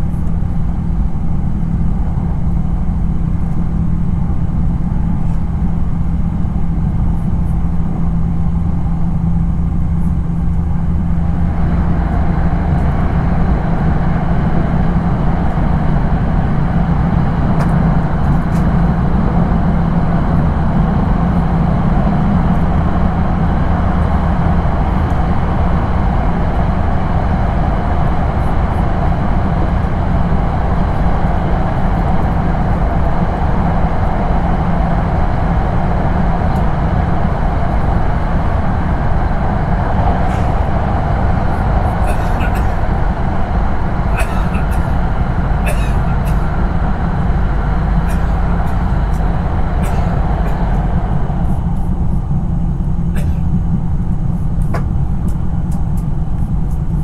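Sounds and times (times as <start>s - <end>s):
train running in tunnel: 0.0s - 57.0s.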